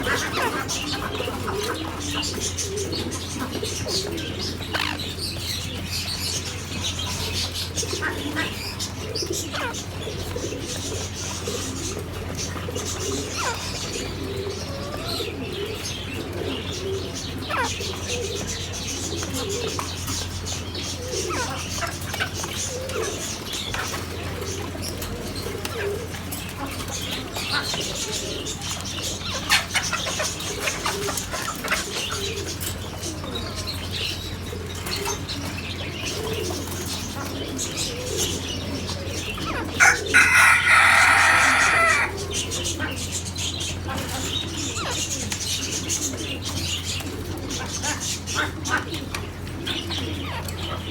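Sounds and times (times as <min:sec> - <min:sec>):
birds calling and chirping: 0:00.0 - 0:50.9.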